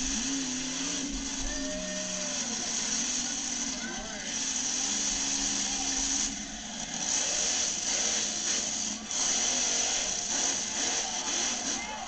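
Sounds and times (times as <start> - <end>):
monster truck engine roaring: 0.0 - 12.0.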